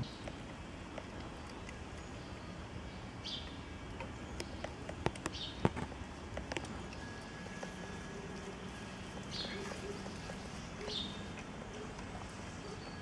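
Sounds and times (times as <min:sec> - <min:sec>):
outdoor background hiss: 0:00.0 - 0:13.0
cat chewing clicks: 0:00.1 - 0:02.4, 0:03.4 - 0:12.6.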